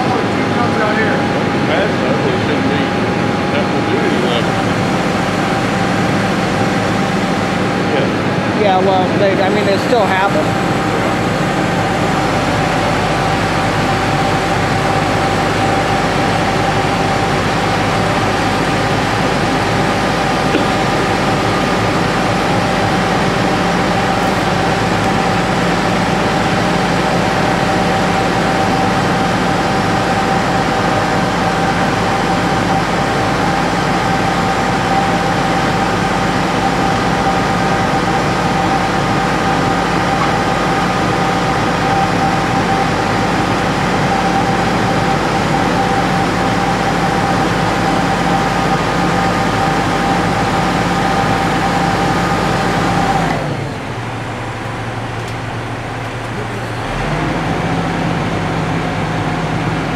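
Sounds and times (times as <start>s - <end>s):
crane engine drone: 0.0s - 59.9s
high whine: 0.0s - 59.9s.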